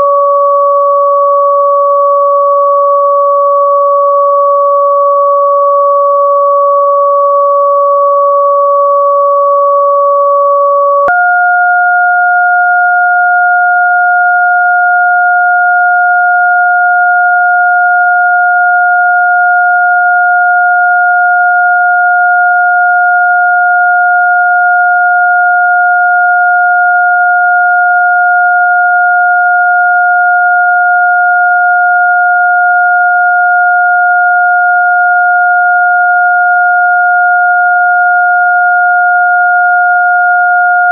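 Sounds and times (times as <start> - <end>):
steady sine tones: 0.0 - 40.9.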